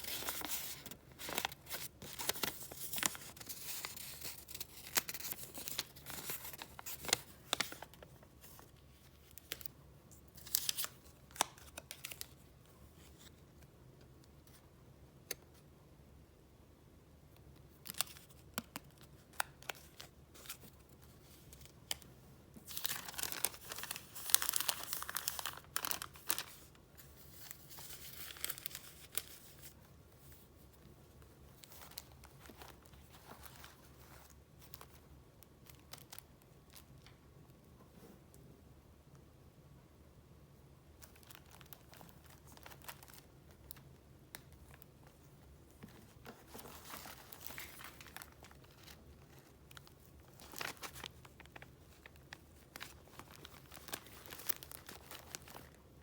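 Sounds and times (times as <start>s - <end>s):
paper and plastic rustling: 0.0s - 13.7s, 17.8s - 37.2s, 41.0s - 55.9s.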